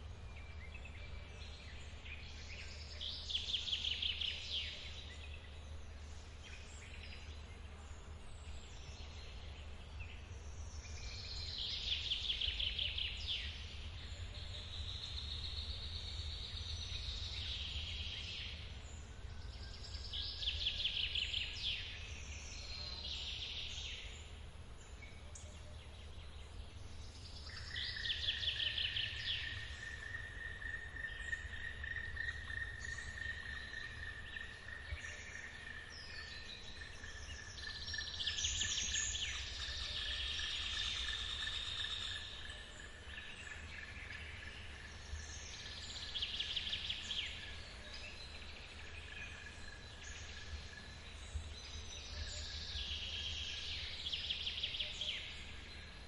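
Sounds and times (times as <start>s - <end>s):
birds singing trilled song: 0.0s - 56.0s.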